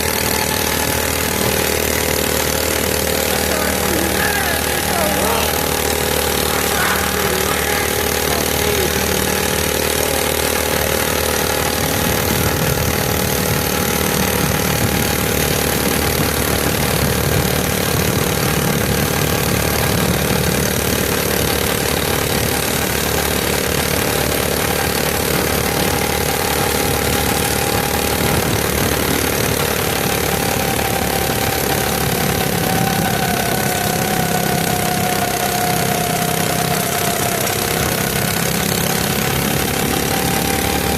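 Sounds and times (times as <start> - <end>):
mini bike engine running: 0.0 - 40.9.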